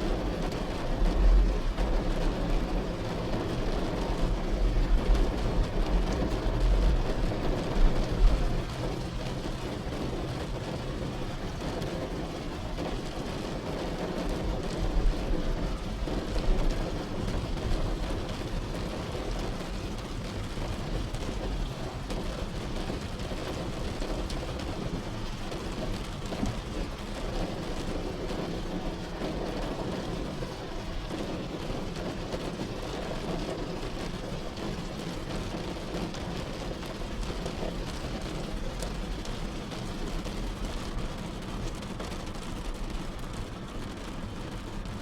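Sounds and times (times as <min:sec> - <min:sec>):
rain on a car roof: 0:00.0 - 0:45.0.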